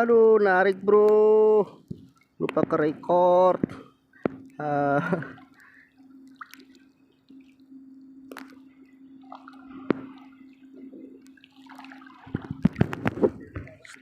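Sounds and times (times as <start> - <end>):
steady low hum: 0.0 - 14.0
water drips and splashes: 0.6 - 2.9, 3.6 - 14.0.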